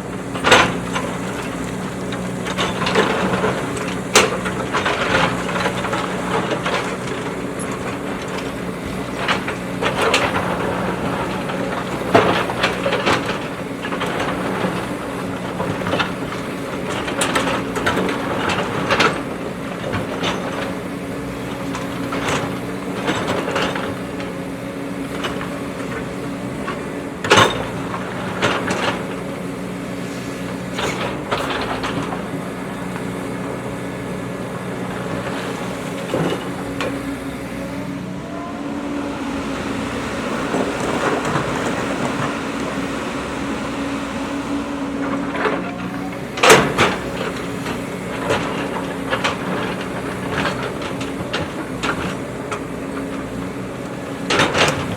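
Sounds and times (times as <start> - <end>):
digging knocks and clanks: 0.0 - 38.0, 44.4 - 54.9
diesel engine running: 0.0 - 54.9.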